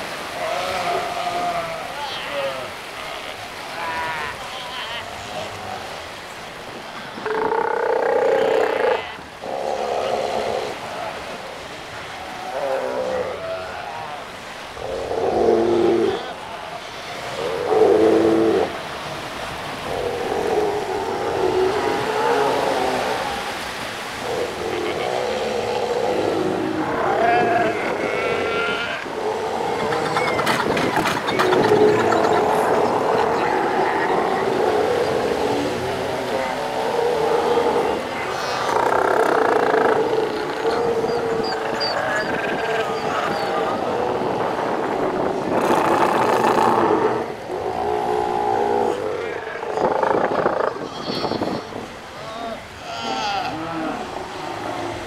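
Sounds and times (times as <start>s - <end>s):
hubbub of seal colony: 0.0s - 55.0s
seal calls: 7.2s - 55.0s.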